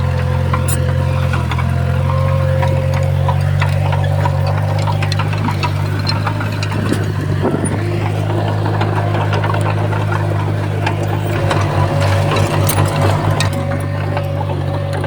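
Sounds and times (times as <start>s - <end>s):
bulldozer diesel engine running: 0.0s - 15.0s
sharp clicks and clanks: 0.0s - 15.0s.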